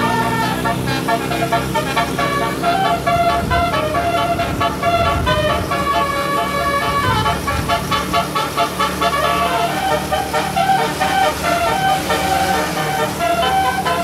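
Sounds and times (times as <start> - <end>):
multi-tone air horn melody: 0.0 - 14.0.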